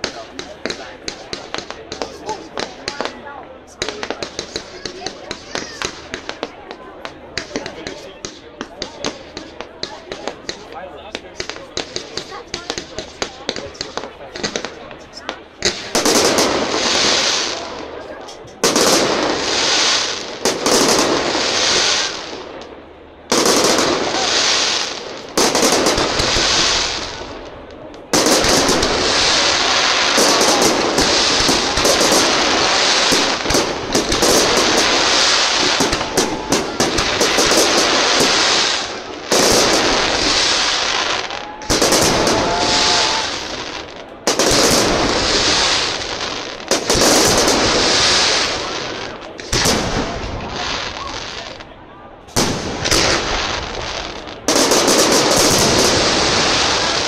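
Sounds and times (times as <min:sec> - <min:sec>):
firework bangs: 0:00.0 - 0:57.0
firework crackling: 0:00.0 - 0:57.0.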